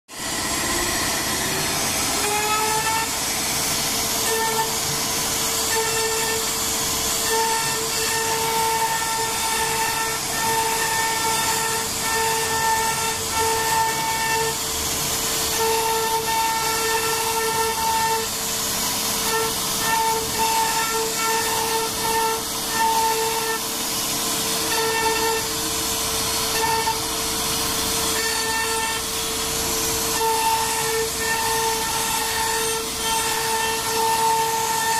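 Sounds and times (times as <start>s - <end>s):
hiss of bit cutting wood: 0.1s - 34.9s
router spindle whine: 0.1s - 34.9s.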